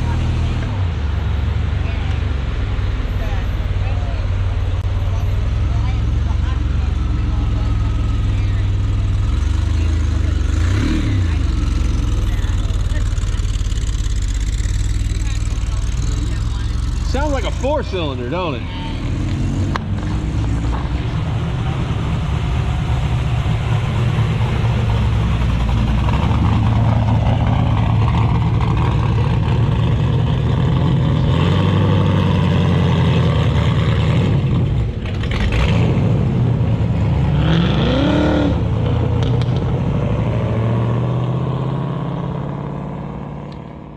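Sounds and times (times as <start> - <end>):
car engines rumbling at low revs: 0.0 - 43.9.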